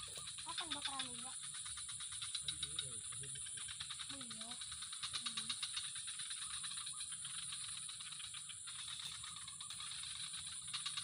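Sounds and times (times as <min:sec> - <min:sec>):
fast rattling pulses: 0:00.0 - 0:11.0.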